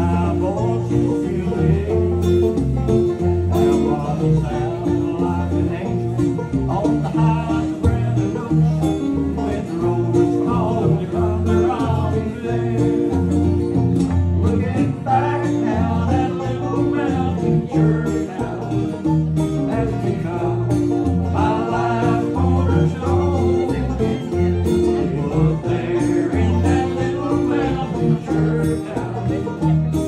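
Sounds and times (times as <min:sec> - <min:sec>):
acoustic guitar: 0:00.0 - 0:30.0
fiddle: 0:00.0 - 0:30.0
plucked strings: 0:00.0 - 0:30.0
walking electric bass line: 0:00.0 - 0:30.0.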